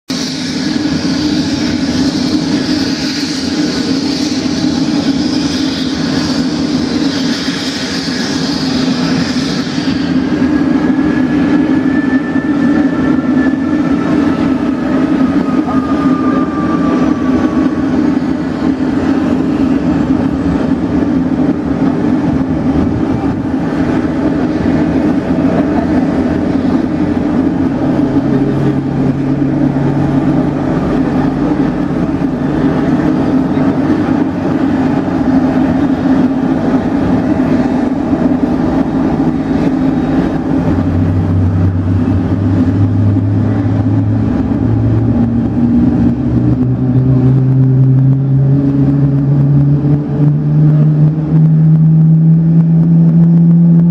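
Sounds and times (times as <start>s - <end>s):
deep hum: 0.0s - 53.9s
jet engines running: 0.0s - 53.9s.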